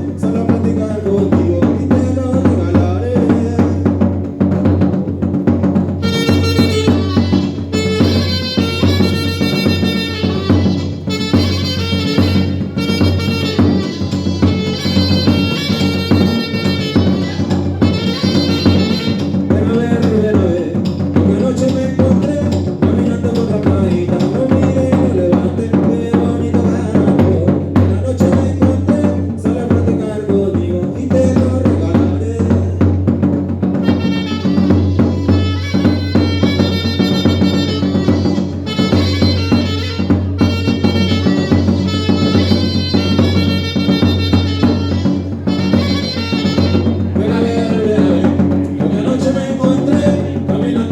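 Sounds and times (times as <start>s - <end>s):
drum kit beat: 0.0s - 50.9s.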